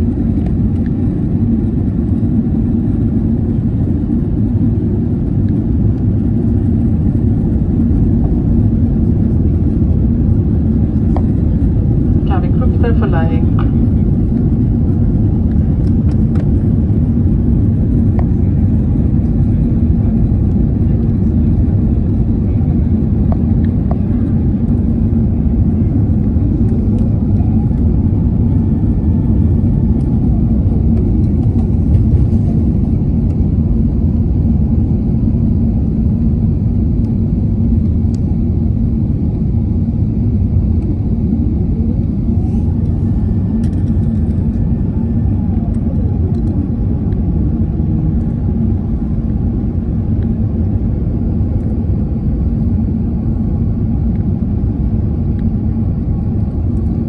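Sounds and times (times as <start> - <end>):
aircraft cabin engine rumble: 0.0 - 57.0
steady hum: 0.0 - 57.0.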